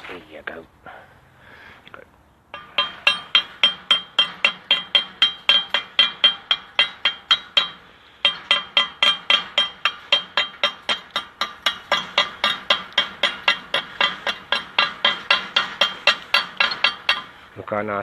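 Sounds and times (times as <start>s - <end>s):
hammer tapping on steel: 2.5s - 17.4s.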